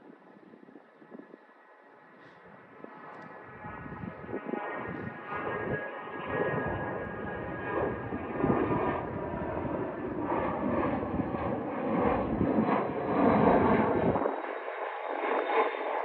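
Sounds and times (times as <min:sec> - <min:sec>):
jet climbing rumble: 0:00.0 - 0:14.6.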